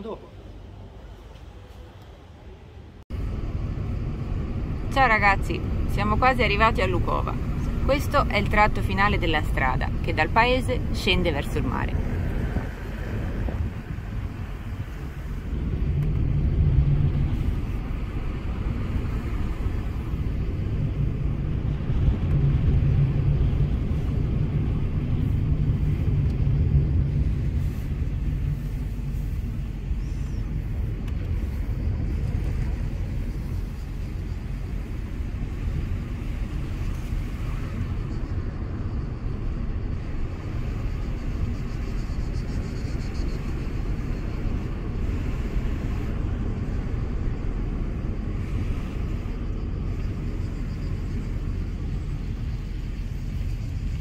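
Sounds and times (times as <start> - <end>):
engine and tyre rumble: 0.0 - 54.0
low hum: 0.0 - 54.0.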